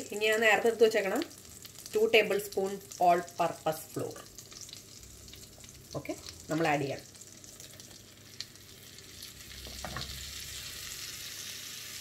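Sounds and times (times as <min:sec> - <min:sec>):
butter and oil sizzling in pan: 0:00.0 - 0:12.0.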